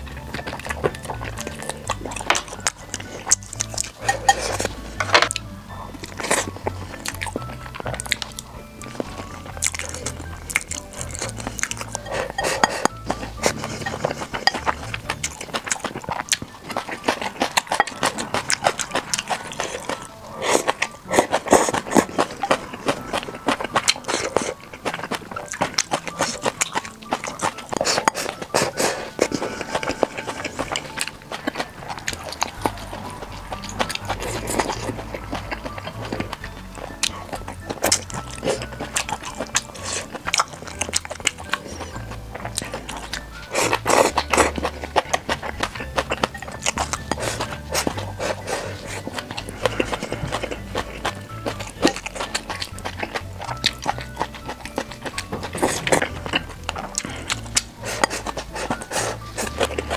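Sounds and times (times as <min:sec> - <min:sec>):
background music: 0:00.0 - 0:59.9
chewing crunches: 0:00.0 - 0:59.9.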